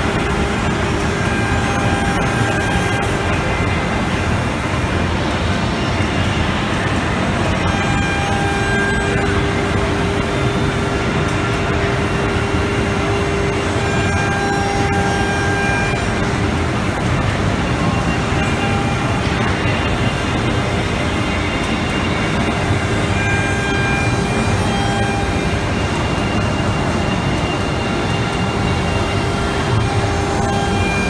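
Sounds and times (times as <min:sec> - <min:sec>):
held machine tone: 0:00.0 - 0:04.4, 0:06.3 - 0:31.0
wood router spindle and cutter noise: 0:00.0 - 0:31.0.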